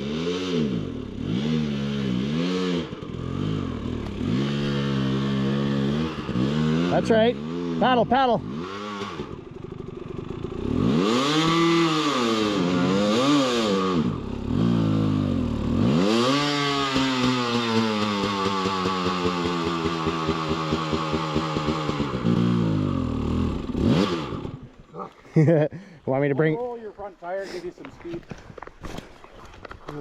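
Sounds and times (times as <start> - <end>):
dirt bike engine revving: 0.0 - 25.6.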